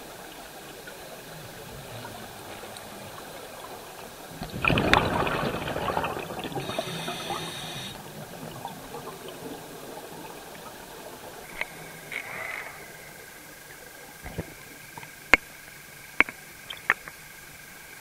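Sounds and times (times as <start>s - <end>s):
rush of water and bubbles: 0.0s - 16.5s
steady watery hiss: 0.0s - 18.0s.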